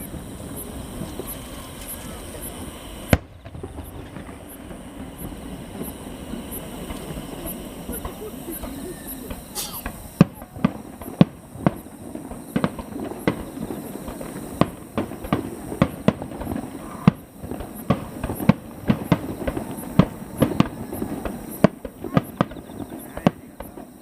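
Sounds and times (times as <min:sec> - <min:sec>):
fireworks bursting with sharp bangs: 0:00.0 - 0:24.0.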